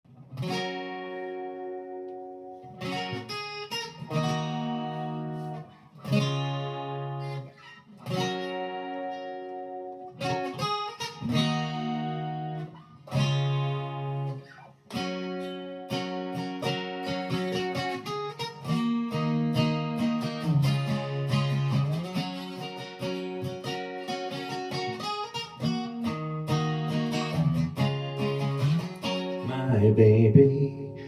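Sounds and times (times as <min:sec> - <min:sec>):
guitar chords strummed: 0:00.1 - 0:31.0.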